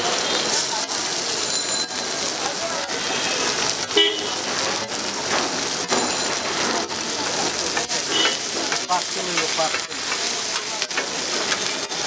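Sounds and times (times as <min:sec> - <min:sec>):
beef and onions sizzling on griddle: 0:00.0 - 0:12.0.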